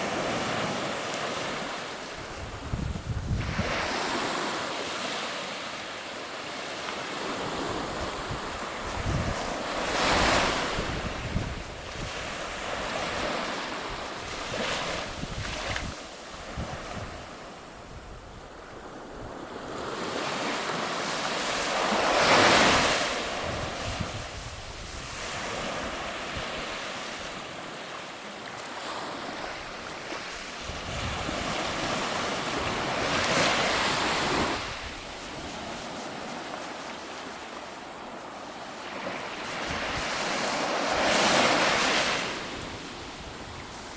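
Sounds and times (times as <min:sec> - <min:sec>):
waves breaking on a beach: 0:00.0 - 0:43.9.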